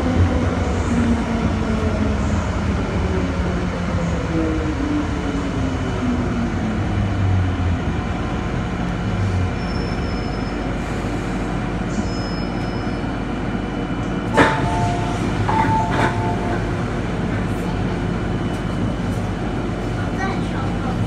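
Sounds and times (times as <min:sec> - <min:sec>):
steady train hum: 0:00.0 - 0:21.0.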